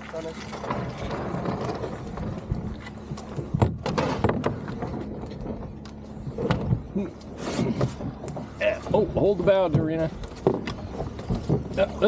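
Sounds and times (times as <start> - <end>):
canoe hull knocks and clunks: 0.1 - 12.0.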